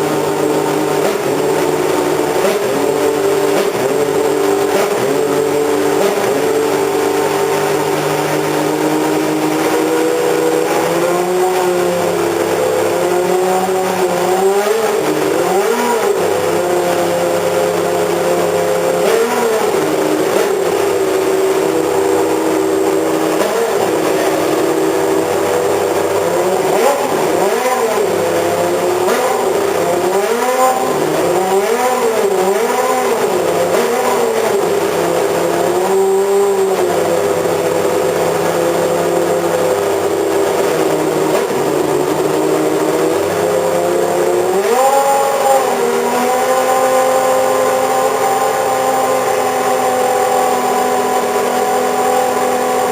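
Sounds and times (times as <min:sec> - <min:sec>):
engine throttle blips: 0:00.0 - 0:52.9
racing car engine idling: 0:00.0 - 0:52.9.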